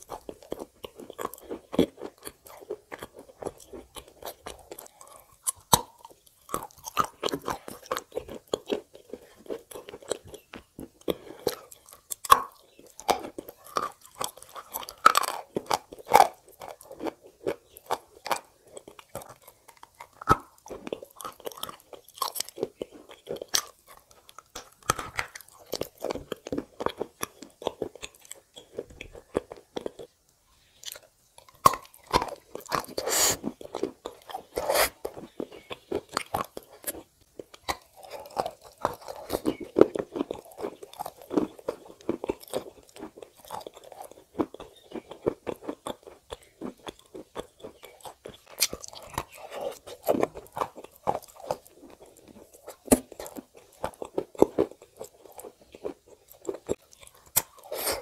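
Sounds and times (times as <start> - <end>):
crunchy chewing of clay: 0.0 - 58.0.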